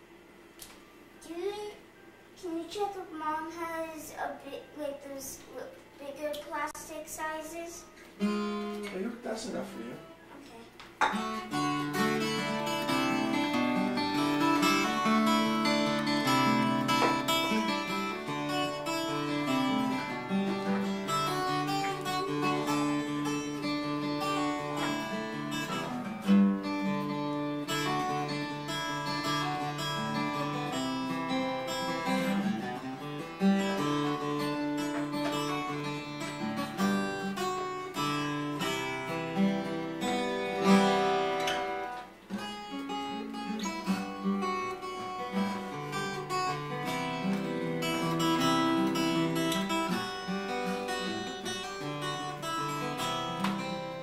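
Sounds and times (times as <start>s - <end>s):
acoustic guitar playing: 0.0s - 54.0s.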